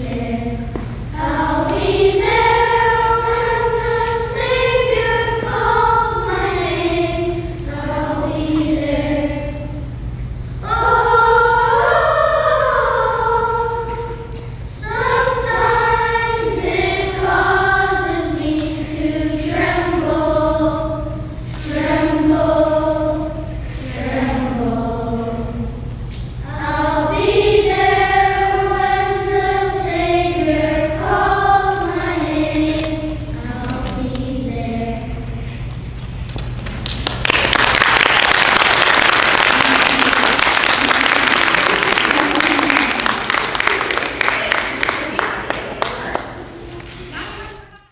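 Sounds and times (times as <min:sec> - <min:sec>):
children's choir singing: 0:00.0 - 0:35.7, 0:37.2 - 0:47.9.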